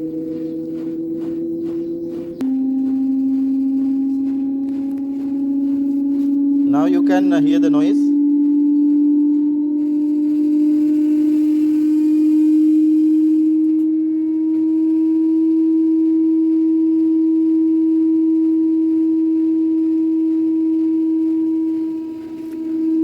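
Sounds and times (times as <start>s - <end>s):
washer-dryer spinning humming: 0.0s - 23.0s.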